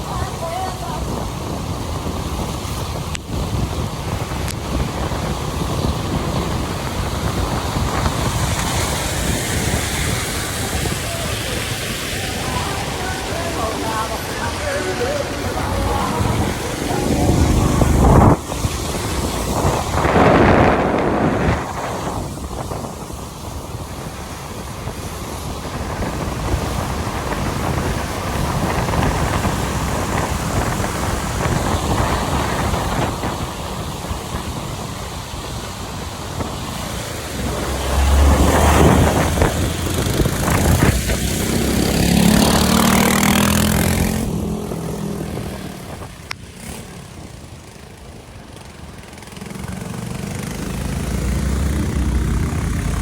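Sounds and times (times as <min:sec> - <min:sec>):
rain: 0:00.0 - 0:53.0
traffic on wet road: 0:00.0 - 0:53.0
wind buffeting microphone: 0:00.0 - 0:53.0.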